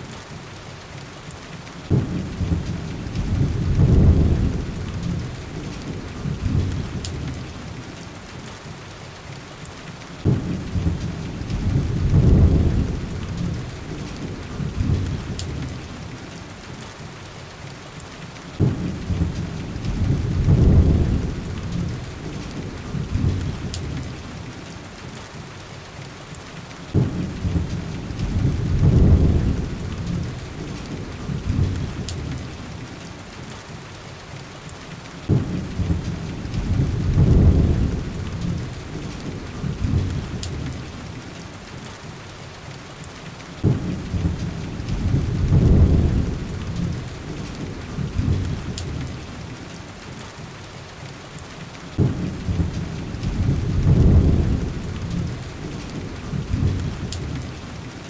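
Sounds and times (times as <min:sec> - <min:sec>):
rain on window glass: 0:00.0 - 0:58.0.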